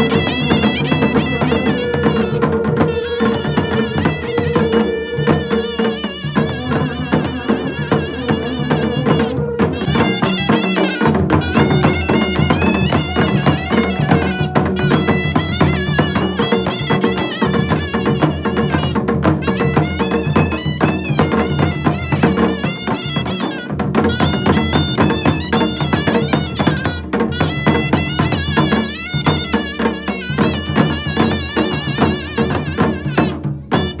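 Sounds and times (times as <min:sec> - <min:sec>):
steady percussion beat: 0:00.0 - 0:34.0.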